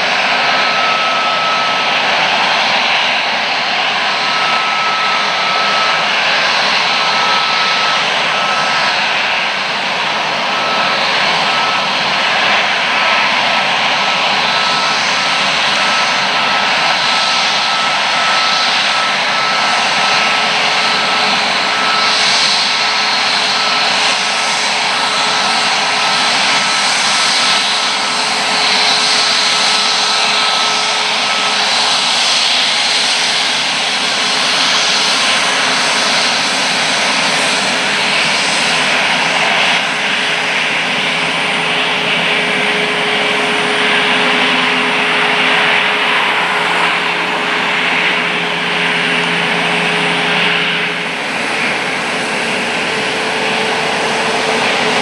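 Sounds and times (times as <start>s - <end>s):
jet engines at taxi power: 0.0s - 55.0s.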